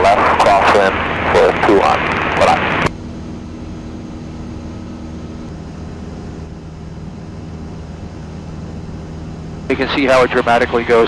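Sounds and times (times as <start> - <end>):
faint high hum: 0.0 - 11.0
propeller plane engine droning: 0.0 - 11.0.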